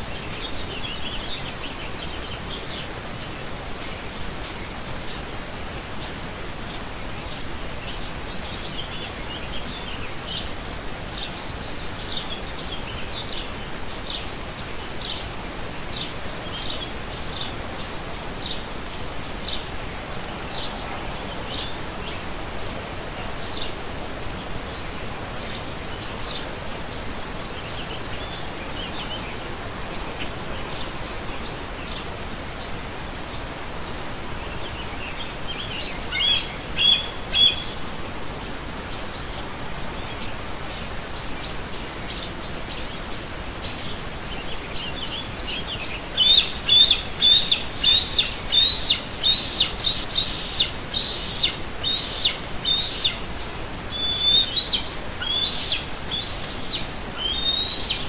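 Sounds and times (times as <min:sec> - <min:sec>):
outdoor background hiss: 0:00.0 - 0:58.0
birds chirping: 0:07.3 - 0:58.0.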